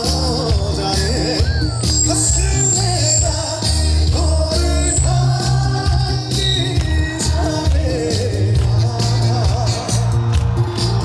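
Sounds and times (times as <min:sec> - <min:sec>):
backing music with bass beat: 0:00.0 - 0:11.0
man singing live: 0:00.0 - 0:11.0.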